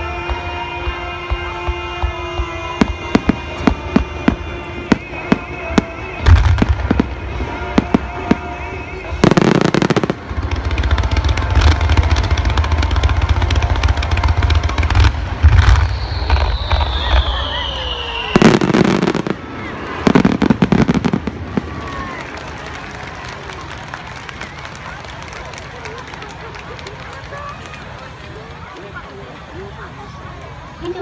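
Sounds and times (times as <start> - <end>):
fireworks popping and booming: 1.2 - 29.0.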